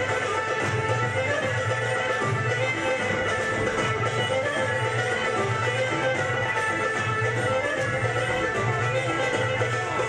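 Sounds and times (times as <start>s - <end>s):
folk dance music: 0.0s - 10.0s.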